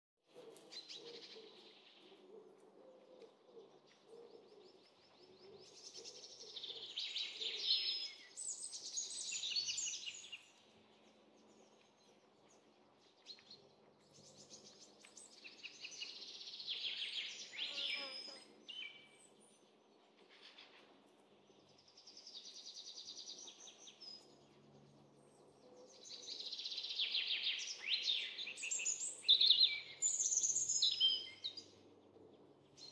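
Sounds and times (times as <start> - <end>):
songbirds trilling and chirping: 0.3 - 32.9.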